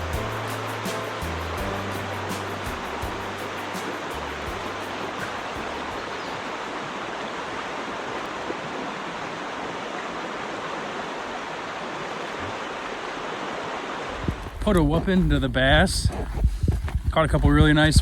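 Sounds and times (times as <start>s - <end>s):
creek water running: 0.0s - 15.4s.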